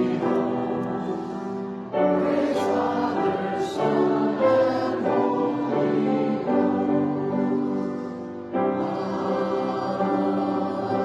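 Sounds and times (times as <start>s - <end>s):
church choir singing: 0.0s - 11.0s.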